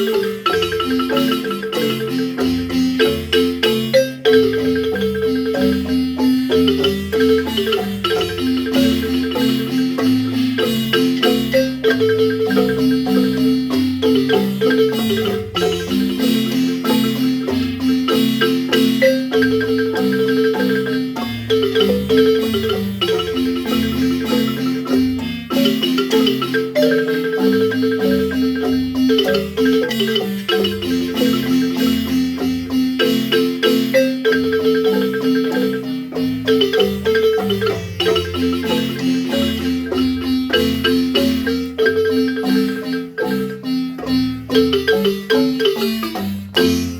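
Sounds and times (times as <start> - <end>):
marimba music: 0.0 - 46.9.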